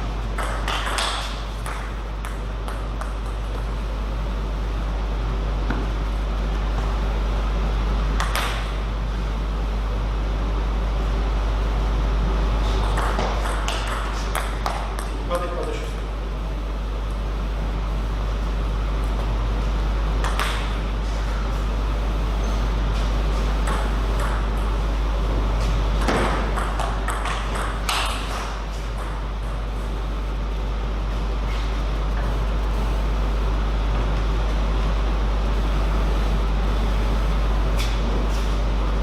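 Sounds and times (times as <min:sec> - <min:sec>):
loud low hum: 0:00.0 - 0:39.0.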